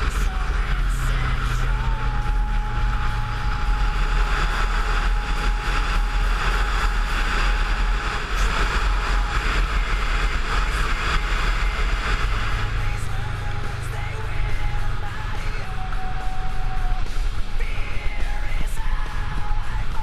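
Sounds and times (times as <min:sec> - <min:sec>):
motorcycle engine rumble: 0:00.0 - 0:20.0
wind noise on microphone: 0:00.0 - 0:20.0.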